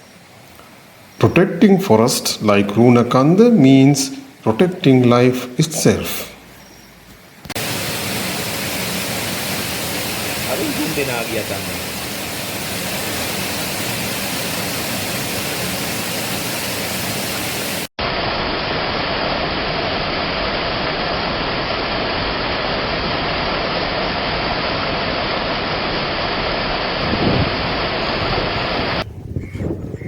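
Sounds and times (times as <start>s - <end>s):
rushing water: 0.0s - 25.9s, 27.0s - 29.0s.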